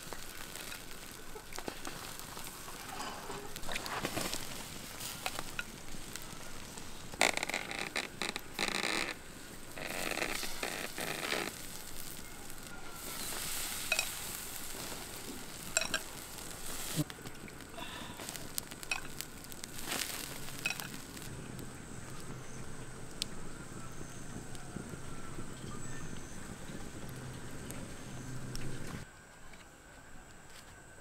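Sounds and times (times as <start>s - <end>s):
fire crackles and pops: 0.0s - 29.1s
meat sizzling over fire: 0.0s - 29.1s.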